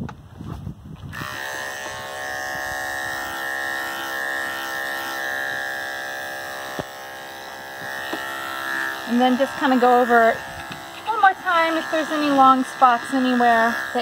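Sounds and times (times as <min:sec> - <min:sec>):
electric clippers buzzing: 0:01.1 - 0:14.0.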